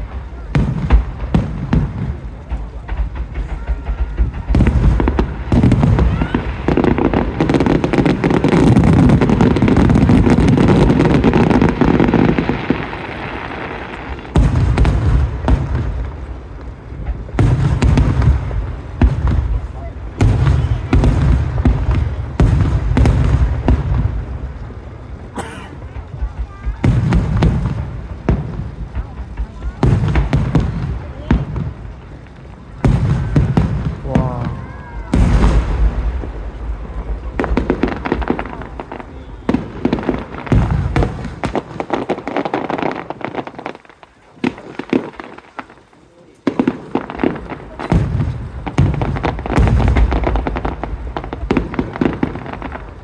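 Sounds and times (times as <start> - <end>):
deep firework boom: 0.0 - 43.2, 46.5 - 53.0
fireworks bangs and crackles: 0.0 - 53.0
low rumble of explosions: 0.0 - 53.0.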